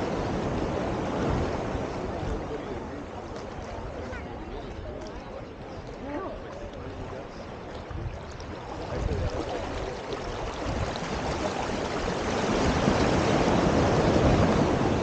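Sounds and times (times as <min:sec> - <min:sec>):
ocean waves washing ashore: 0:00.0 - 0:15.0.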